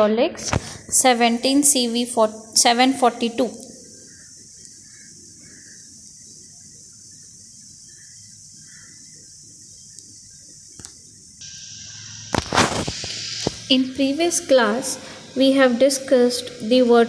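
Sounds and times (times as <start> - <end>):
high-pitched background hiss: 0.0 - 17.0.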